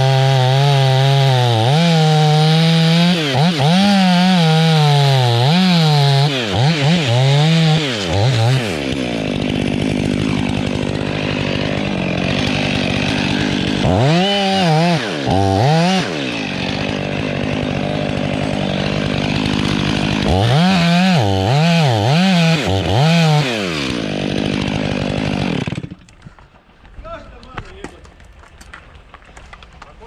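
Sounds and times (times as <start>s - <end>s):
chainsaw idling and revving: 0.0s - 26.3s.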